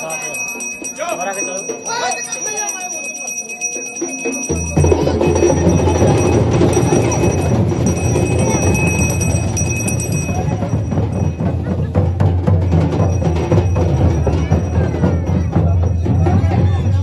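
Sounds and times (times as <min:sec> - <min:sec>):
bells ringing: 0:00.0 - 0:17.0
drumming: 0:00.0 - 0:17.0.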